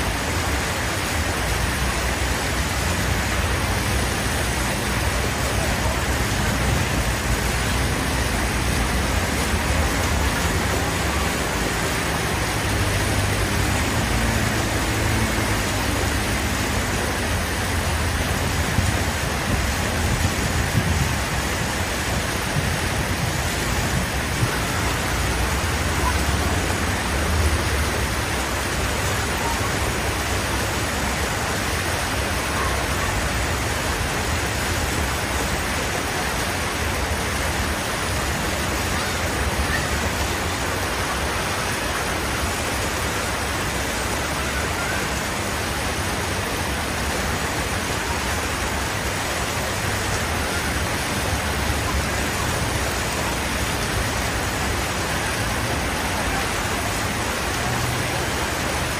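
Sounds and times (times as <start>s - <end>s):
heavy rain hissing: 0.0s - 58.9s
vehicle engines rumbling: 0.0s - 58.9s.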